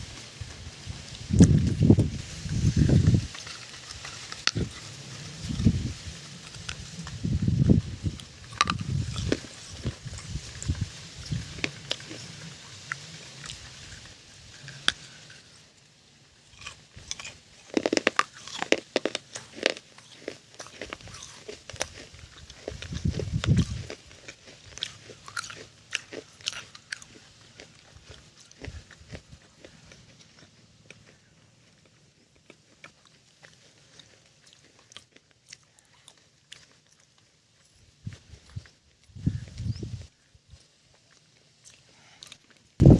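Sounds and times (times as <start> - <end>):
crunchy food chewing: 0.0 - 42.9.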